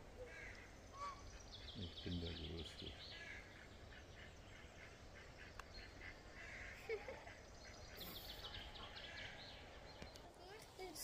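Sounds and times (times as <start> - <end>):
low bird call: 0.0 - 10.2
bird chirps and calls: 0.1 - 11.0.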